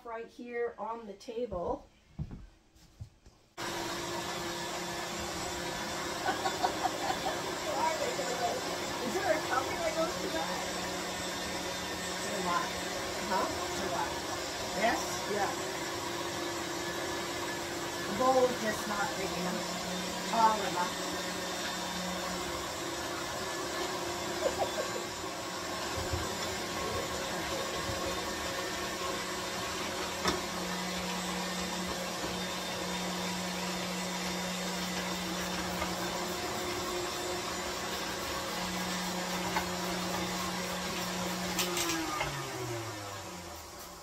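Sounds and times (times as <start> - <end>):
stand mixer motor hum: 3.6 - 44.0.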